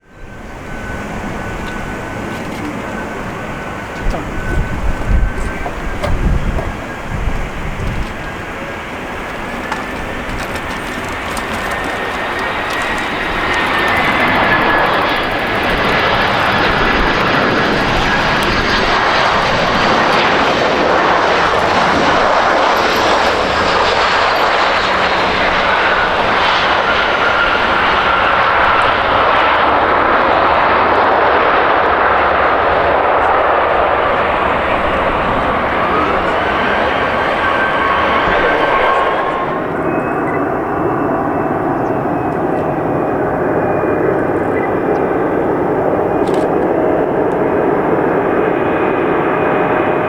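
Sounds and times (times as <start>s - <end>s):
jet engines roaring and whining: 0.0s - 50.0s.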